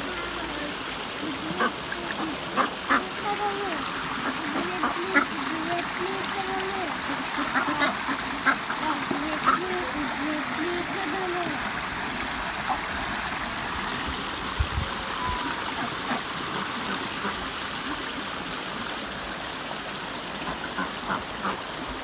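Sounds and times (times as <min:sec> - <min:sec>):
stream running over stones: 0:00.0 - 0:22.0.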